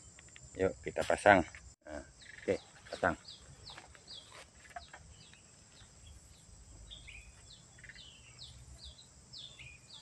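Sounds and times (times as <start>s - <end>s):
faint high bird chirps: 1.9s - 10.0s.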